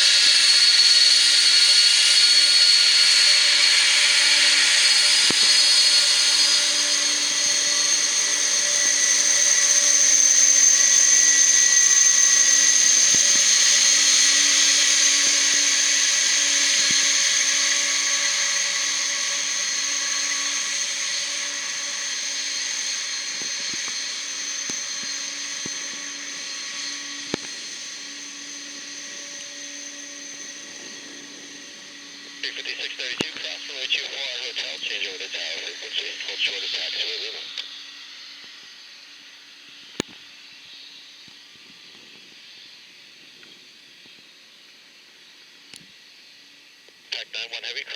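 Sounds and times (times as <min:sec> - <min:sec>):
jet engines whining: 0:00.0 - 0:45.7.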